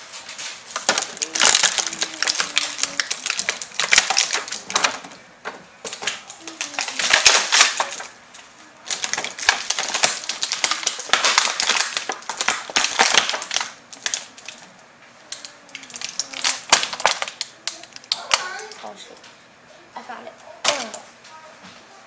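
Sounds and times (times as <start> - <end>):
plastic packaging crinkling: 0.0 - 19.2.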